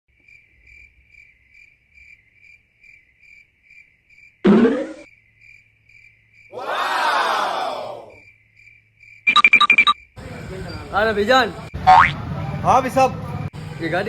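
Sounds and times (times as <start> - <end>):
crickets chirping: 0.1 - 4.4, 5.0 - 12.0.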